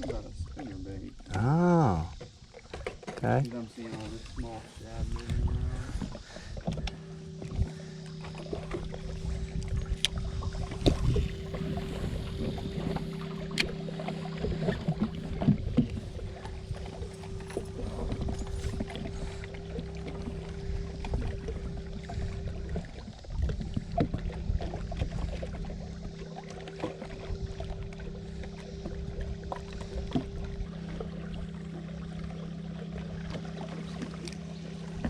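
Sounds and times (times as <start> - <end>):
boat motor humming: 0.0 - 35.0
water and wind rumbling: 0.0 - 35.0.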